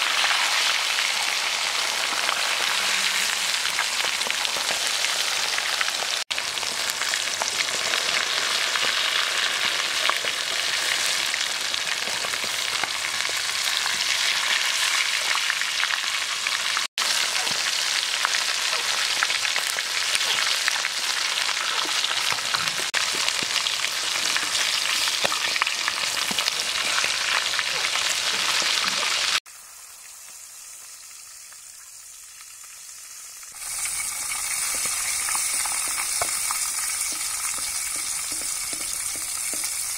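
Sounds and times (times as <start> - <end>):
chicken deep-frying in hot oil: 0.0 - 39.9.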